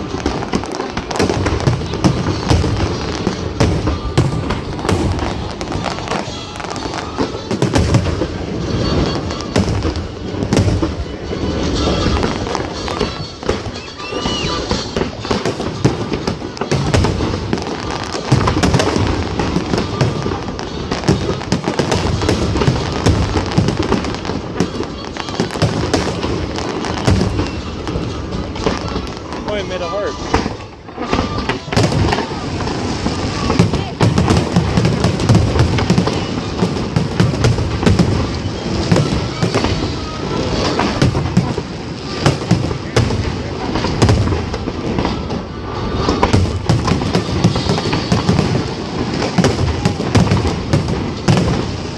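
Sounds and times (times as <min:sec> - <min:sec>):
fireworks crackling: 0:00.0 - 0:51.9
fireworks deep booms: 0:00.0 - 0:51.9.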